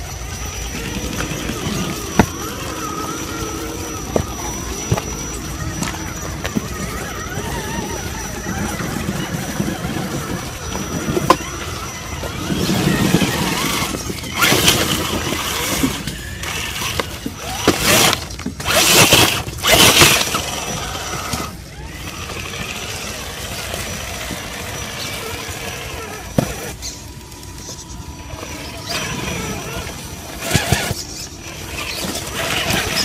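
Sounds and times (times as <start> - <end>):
electric motor whine: 0.0 - 33.0
tyres scrabbling on stone: 0.0 - 33.0.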